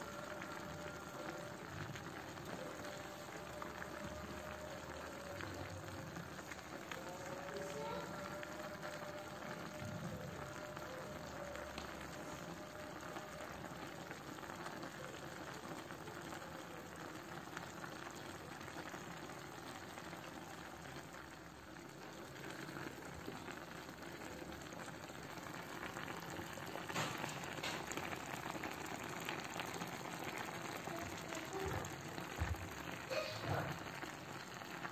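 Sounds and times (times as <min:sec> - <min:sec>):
sauce simmering and sizzling: 0:00.0 - 0:34.9.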